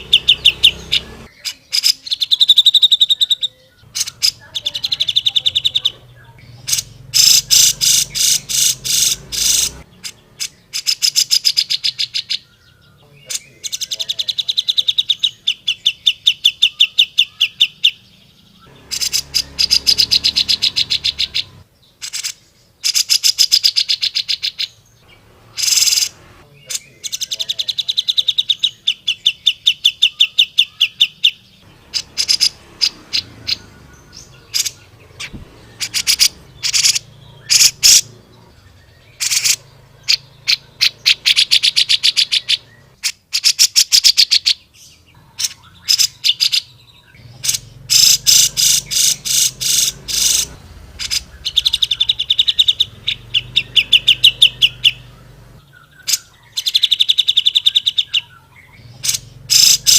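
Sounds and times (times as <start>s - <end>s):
bird singing in sharp bursts: 0.0s - 59.9s.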